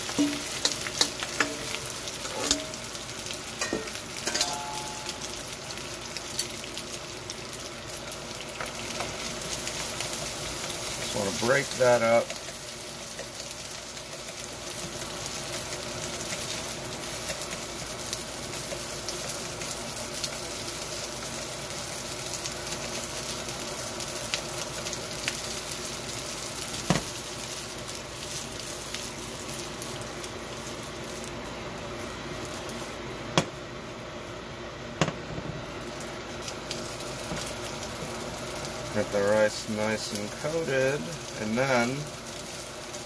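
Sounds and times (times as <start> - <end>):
rice sizzling in a wok: 0.0 - 43.0.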